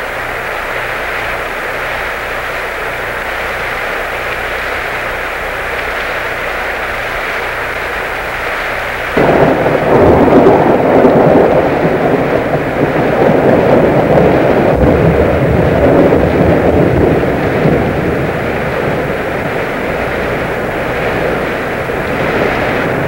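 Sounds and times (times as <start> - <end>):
dense rushing rumble: 0.0 - 23.0
steady hiss: 0.0 - 23.0.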